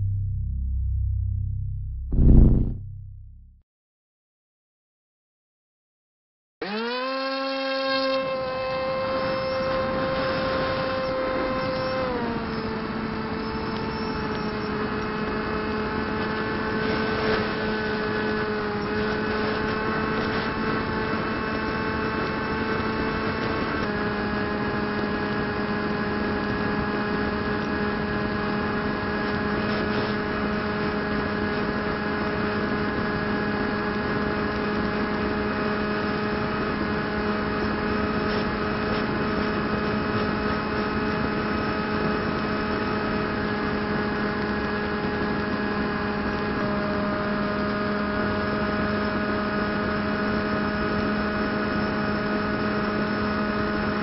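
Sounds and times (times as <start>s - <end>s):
electric motor whine: 6.6s - 54.0s.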